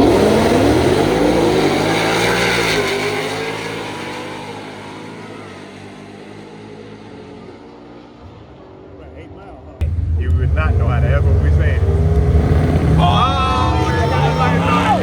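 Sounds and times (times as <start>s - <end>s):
drag car accelerating: 0.0s - 15.0s.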